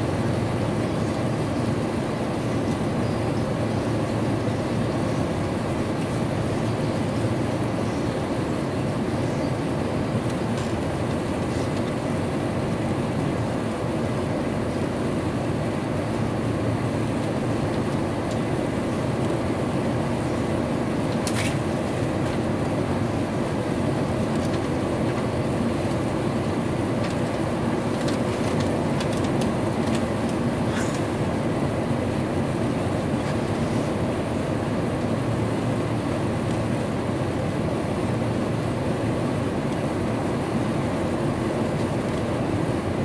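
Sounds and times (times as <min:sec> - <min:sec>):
airplane cabin roar: 0:00.0 - 0:43.0.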